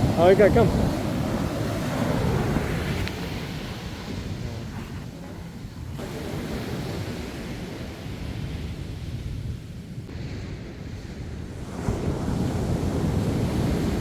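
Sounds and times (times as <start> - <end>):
ocean surf washing in: 0.0 - 14.0
wind buffeting microphone: 0.0 - 14.0.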